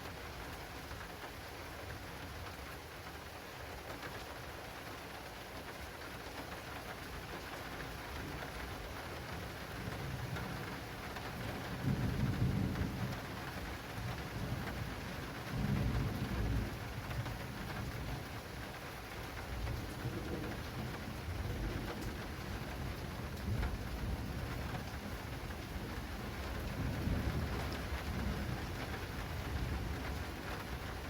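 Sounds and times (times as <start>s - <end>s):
heavy rain on plastic canopy: 0.0s - 31.0s.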